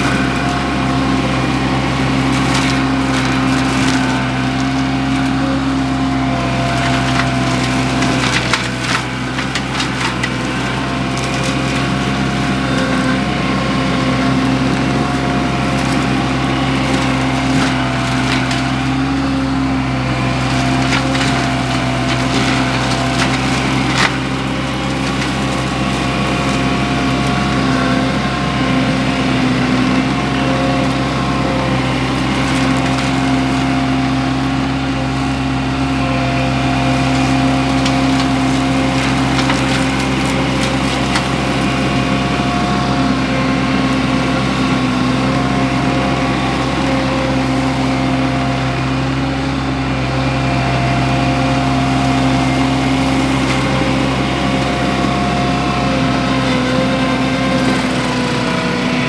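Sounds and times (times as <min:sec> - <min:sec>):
wood cracking and splintering: 0:00.0 - 0:49.6, 0:50.5 - 0:59.0
engine droning: 0:00.0 - 0:59.0.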